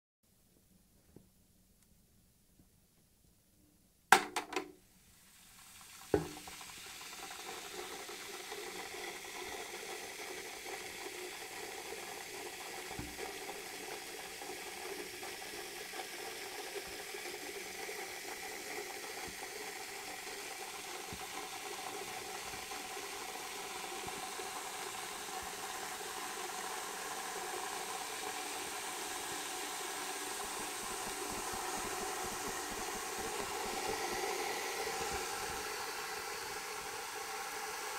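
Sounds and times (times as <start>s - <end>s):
foil fizzing and bubbling: 5.0s - 37.9s.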